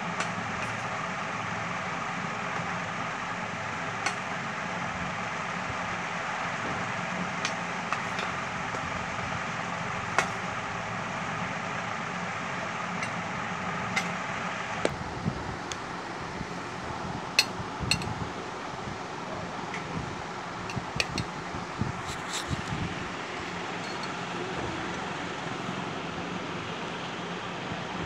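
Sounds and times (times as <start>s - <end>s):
fan-like whir: 0.0s - 28.0s.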